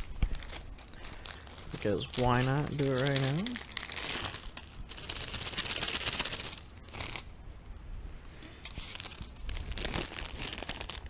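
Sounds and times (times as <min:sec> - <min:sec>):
plastic parts rustling: 0:00.0 - 0:07.3, 0:08.6 - 0:11.0.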